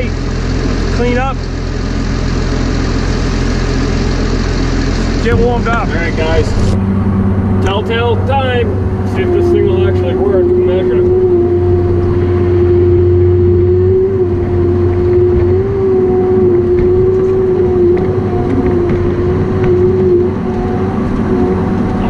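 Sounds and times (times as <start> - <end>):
diesel engine running: 0.0 - 22.0
hydraulic whine: 0.0 - 22.0.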